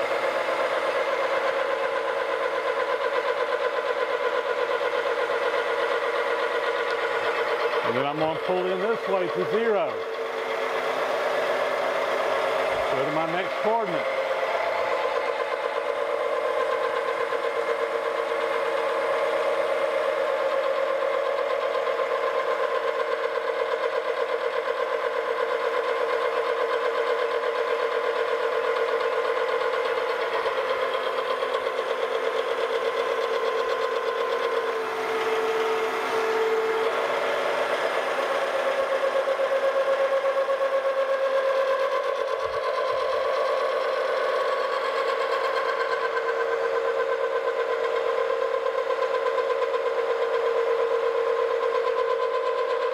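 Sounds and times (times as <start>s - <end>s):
milling machine cutting metal: 0.0s - 52.9s.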